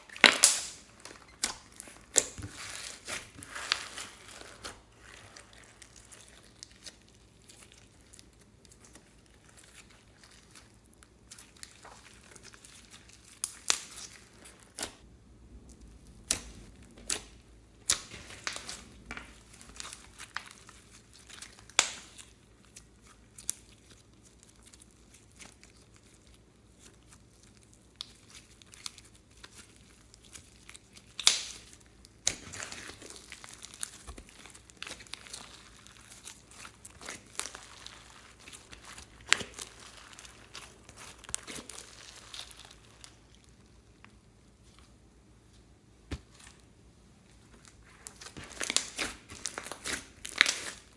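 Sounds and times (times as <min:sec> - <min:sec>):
slime crackling and popping: 0:00.0 - 0:15.0, 0:15.6 - 0:44.1, 0:47.3 - 0:50.9.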